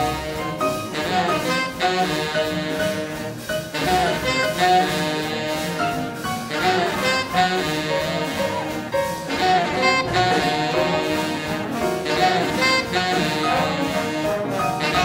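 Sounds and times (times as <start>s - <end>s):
big band playing swing jazz: 0.0s - 15.0s
saxophones and brass ensemble: 0.0s - 15.0s.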